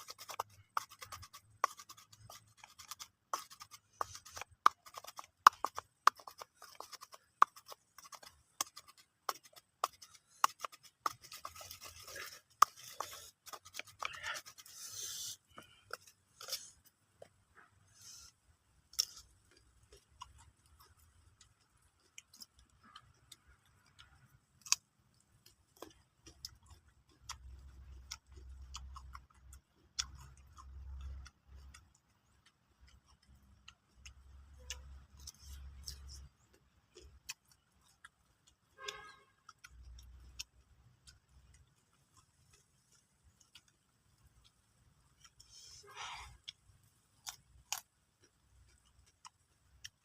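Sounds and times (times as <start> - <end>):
person chewing crunchy fruit: 0.0 - 50.0.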